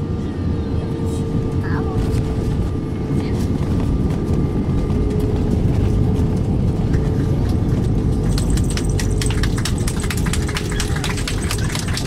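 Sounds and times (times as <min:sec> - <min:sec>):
wheels and jet engines rumbling: 0:00.0 - 0:12.0.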